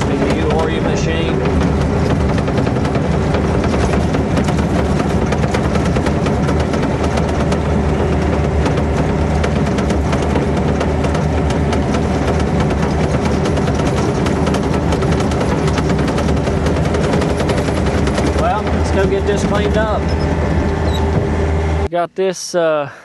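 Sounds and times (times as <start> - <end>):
clicks and knocks: 0.0 - 21.3
diesel engine droning: 0.0 - 22.6.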